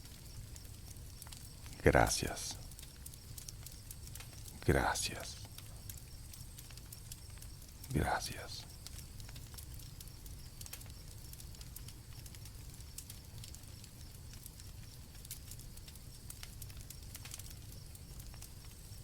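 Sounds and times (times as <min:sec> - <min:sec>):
campfire crackling: 0:00.0 - 0:19.0
crickets chirping: 0:00.0 - 0:19.0.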